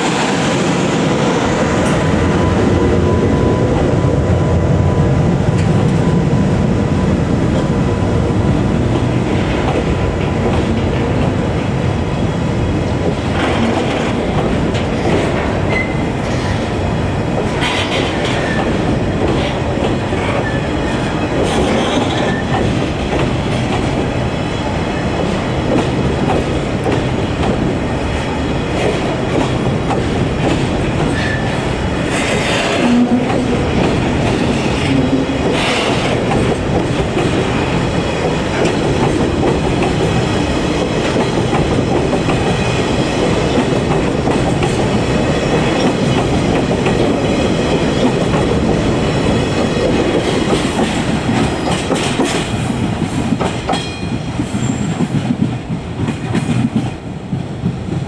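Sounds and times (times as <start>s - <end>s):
freight train wheels clattering: 7.3s - 58.0s.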